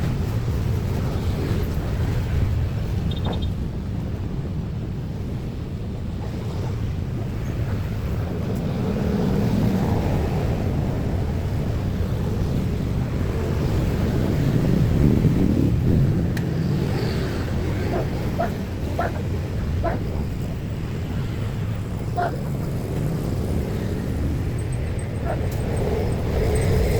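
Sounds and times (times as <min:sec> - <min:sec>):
traffic rumble: 0:00.0 - 0:26.9.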